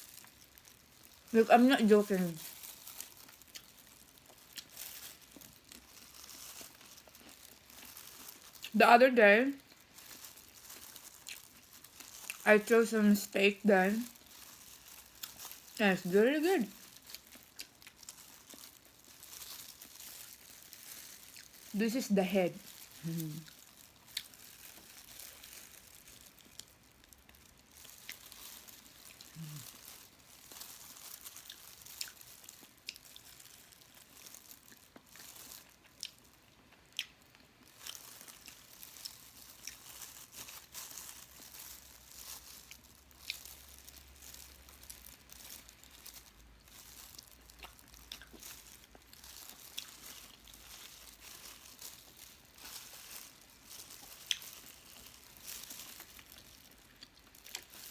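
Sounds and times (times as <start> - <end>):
faint chewing and mouth noises: 0.0 - 8.8, 9.5 - 57.9.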